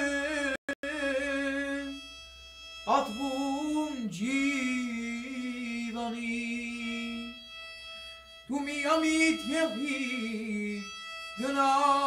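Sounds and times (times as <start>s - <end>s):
young man singing: 0.0s - 2.0s, 2.9s - 7.4s, 8.5s - 12.0s
bowed fiddle sustained tone: 0.0s - 12.0s.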